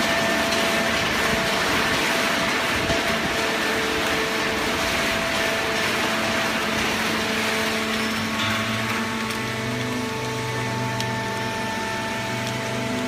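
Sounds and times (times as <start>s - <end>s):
deeper machine hum: 0.0s - 13.0s
hydraulic baler running: 0.0s - 13.0s.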